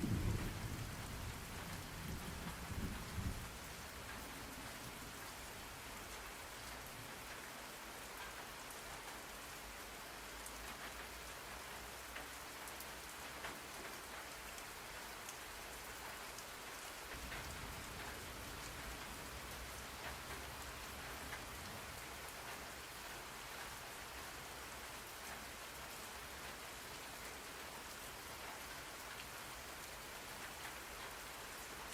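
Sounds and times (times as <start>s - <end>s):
steady rain hiss: 0.0s - 31.9s.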